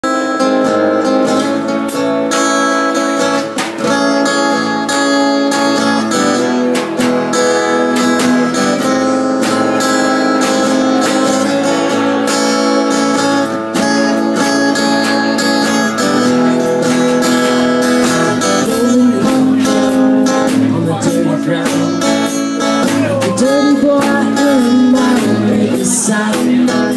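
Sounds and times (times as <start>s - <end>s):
acoustic guitar strumming: 0.0s - 26.9s.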